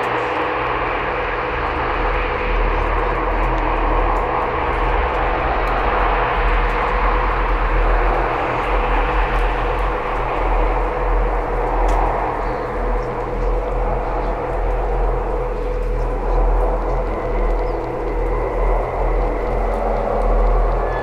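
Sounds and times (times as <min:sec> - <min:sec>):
faint steady hum: 0:00.0 - 0:21.0
low rumble: 0:00.0 - 0:21.0.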